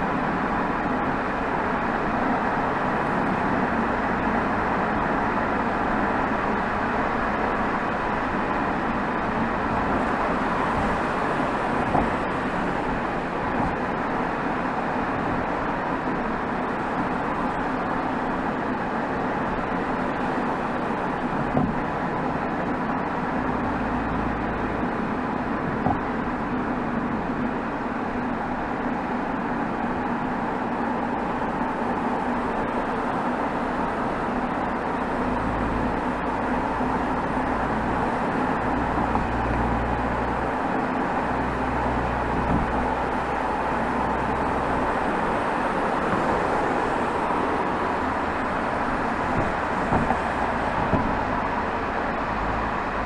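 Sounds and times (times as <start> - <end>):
car exhaust drone: 0.0 - 53.0
road and tyre noise: 0.0 - 53.0.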